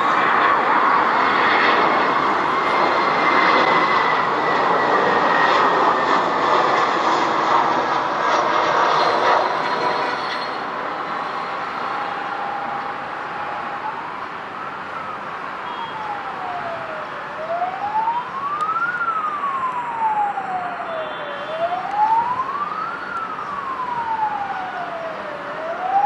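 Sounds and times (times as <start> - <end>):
jet engine roar with falling whine: 0.0 - 26.0.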